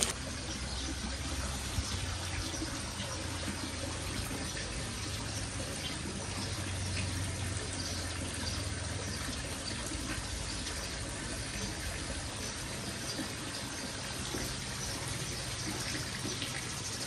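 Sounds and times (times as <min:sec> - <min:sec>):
water splashing into pond: 0:00.0 - 0:17.0.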